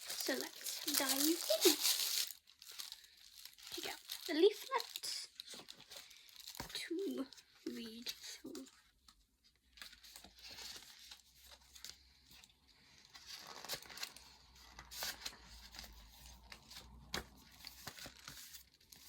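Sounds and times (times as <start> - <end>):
paper and packaging rustling: 0.0 - 19.0.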